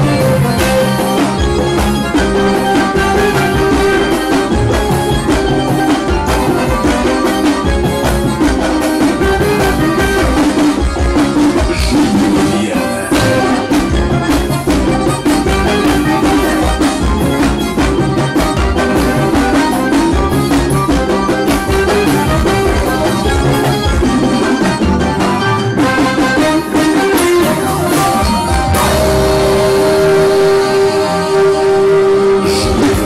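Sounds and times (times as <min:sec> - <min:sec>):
amplified live band music: 0:00.0 - 0:33.0
steady drum beat: 0:00.0 - 0:33.0.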